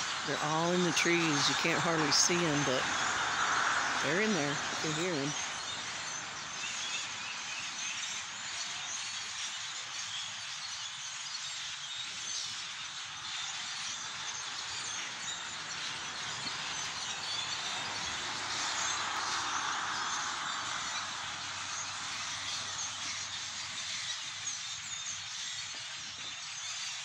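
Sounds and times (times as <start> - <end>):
flock of birds chattering: 0.0 - 27.0.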